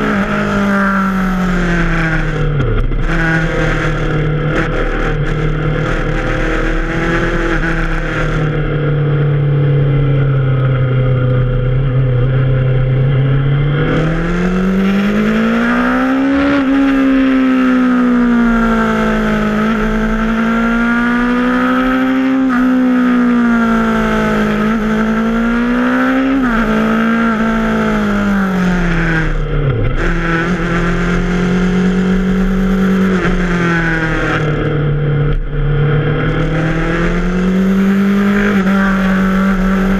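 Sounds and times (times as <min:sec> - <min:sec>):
motorcycle engine under load: 0:00.0 - 0:39.9.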